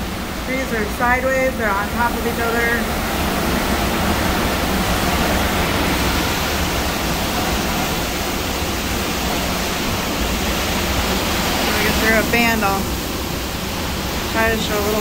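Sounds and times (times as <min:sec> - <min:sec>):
driving rain: 0:00.0 - 0:15.0
hurricane wind: 0:00.0 - 0:15.0.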